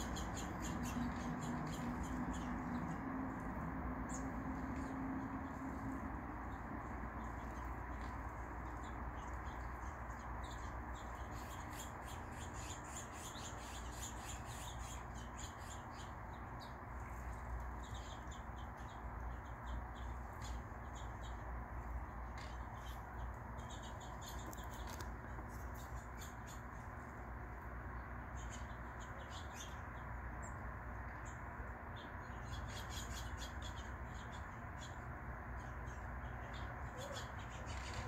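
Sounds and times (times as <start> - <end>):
small songbirds chirping: 0.0 - 38.0.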